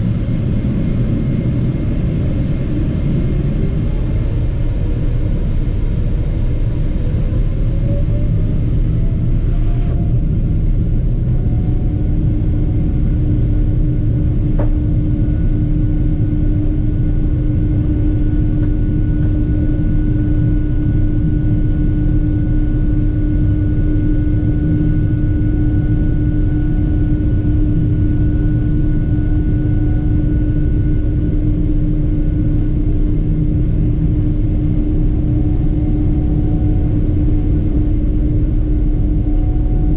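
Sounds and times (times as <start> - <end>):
jet engine whine: 0.0 - 39.9
low cabin rumble: 0.0 - 39.9.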